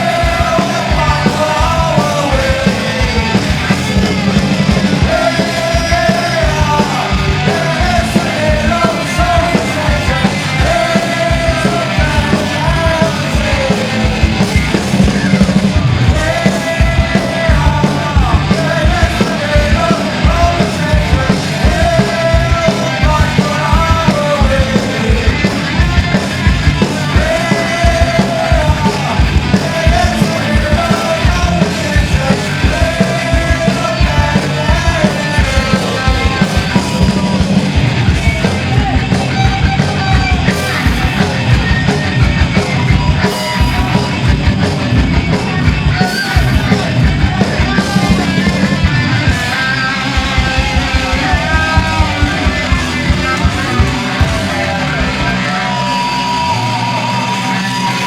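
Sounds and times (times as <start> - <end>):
electric guitars: 0.0 - 58.0
fast driving drums: 0.0 - 58.0
shouted vocals: 0.0 - 58.0.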